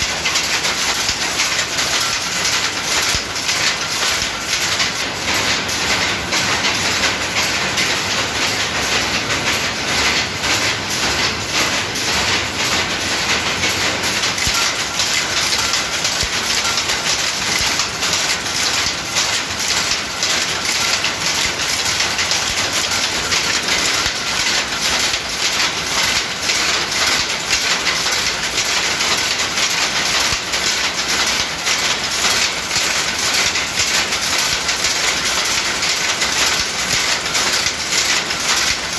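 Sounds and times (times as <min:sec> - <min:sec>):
power loom clattering: 0:00.0 - 0:38.9.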